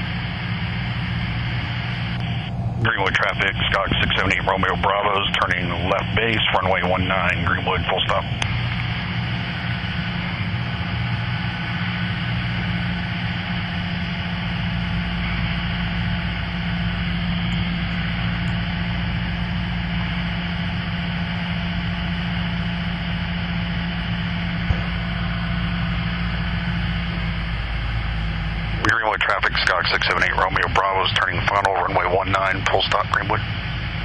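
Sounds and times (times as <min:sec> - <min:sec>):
airplane engine and propeller drone: 0:00.0 - 0:34.0.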